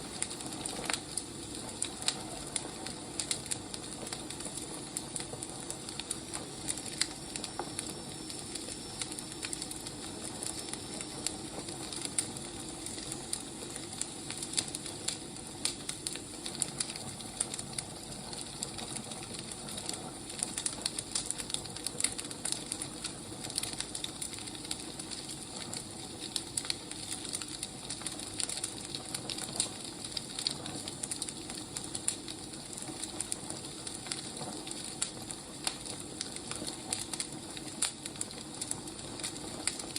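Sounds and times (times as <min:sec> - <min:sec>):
firewood crackling and popping: 0:00.0 - 0:39.9
wood fire hissing: 0:00.0 - 0:39.9.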